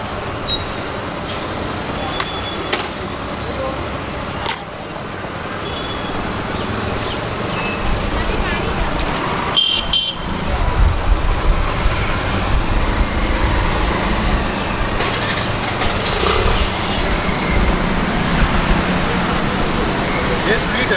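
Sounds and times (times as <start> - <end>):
rumble of passing traffic: 0.0 - 20.9.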